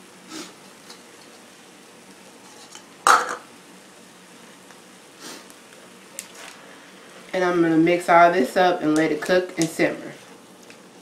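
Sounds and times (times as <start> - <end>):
frying pan sizzling: 0.0 - 11.0.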